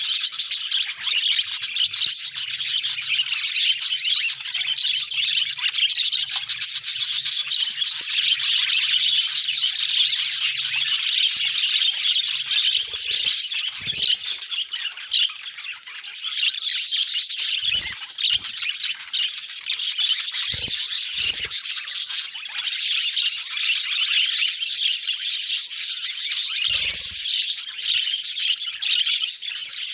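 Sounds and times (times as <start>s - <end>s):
budgerigars chattering: 0.0s - 29.9s.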